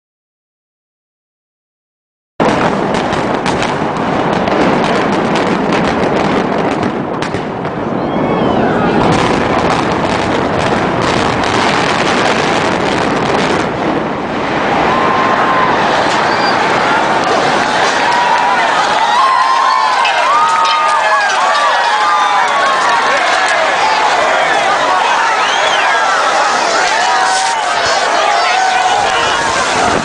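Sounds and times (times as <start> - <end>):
building collapsing: 2.4 - 30.0
demolition charges exploding: 2.4 - 30.0.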